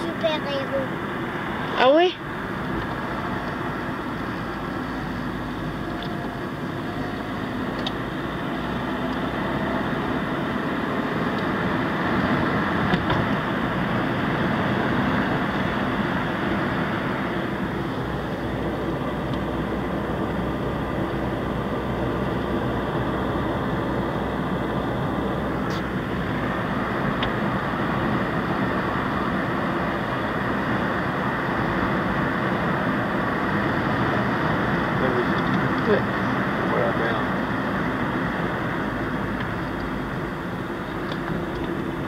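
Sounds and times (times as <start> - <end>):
car engine and tyre noise: 0.0 - 42.0.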